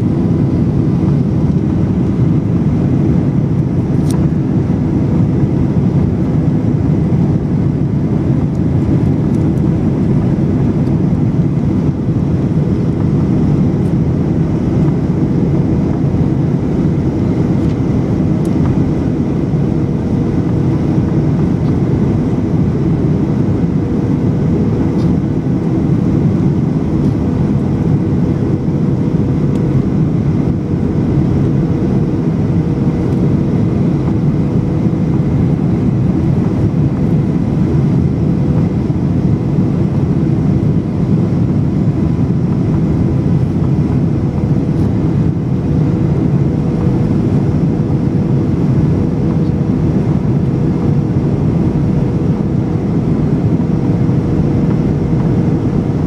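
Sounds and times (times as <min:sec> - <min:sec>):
airplane cabin engine noise: 0:00.0 - 0:56.0.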